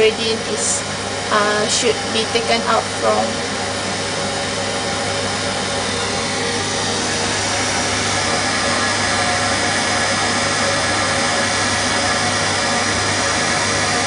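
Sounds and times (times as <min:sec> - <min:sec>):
fan-like rushing noise: 0:00.0 - 0:14.0
low hum of lab equipment: 0:00.0 - 0:14.0.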